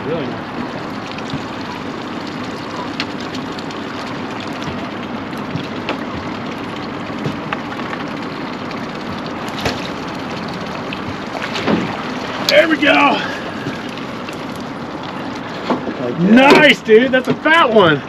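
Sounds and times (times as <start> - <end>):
boat engine hum: 0.0 - 18.0
water wash: 0.0 - 18.0.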